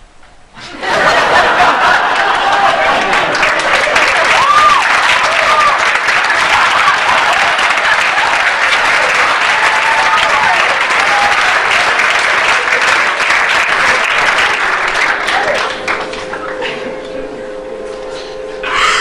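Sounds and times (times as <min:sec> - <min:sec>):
audience applauding: 0:00.9 - 0:16.9.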